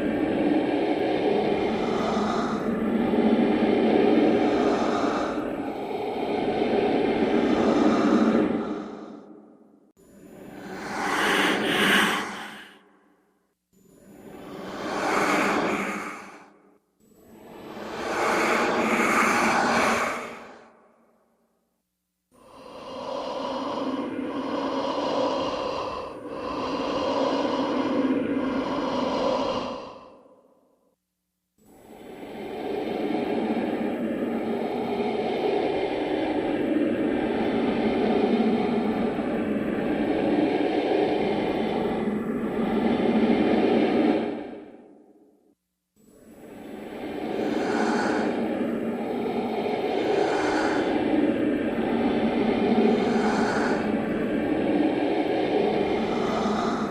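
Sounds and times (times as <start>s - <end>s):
ghostly hissing breaths: 0.0s - 13.3s, 14.0s - 20.9s, 22.4s - 30.7s, 31.7s - 45.4s, 46.1s - 56.9s.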